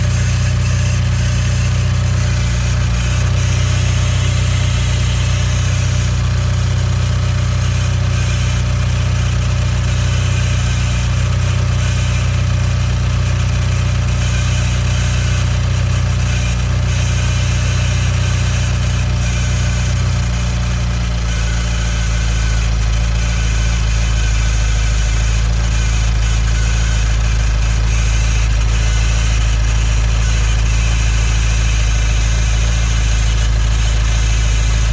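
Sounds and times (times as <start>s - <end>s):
car engine idling: 0.0s - 14.2s, 19.7s - 34.9s.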